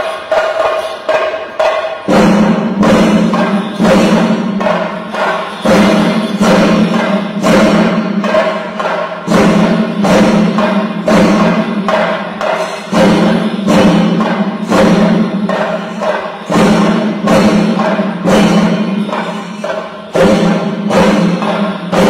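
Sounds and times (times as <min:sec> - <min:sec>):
drum-led percussion music: 0:00.0 - 0:22.0.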